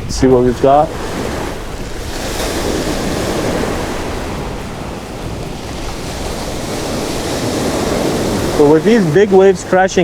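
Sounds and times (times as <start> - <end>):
waves crashing on beach: 0.0 - 10.0
wind buffeting microphone: 0.0 - 10.0.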